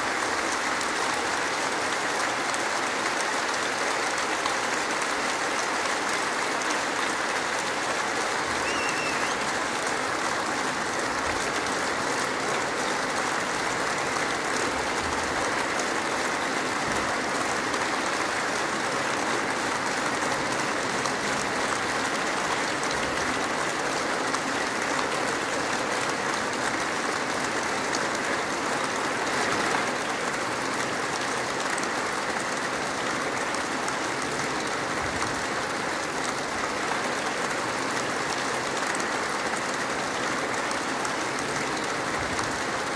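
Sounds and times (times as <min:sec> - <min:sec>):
large audience applauding: 0:00.0 - 0:42.9.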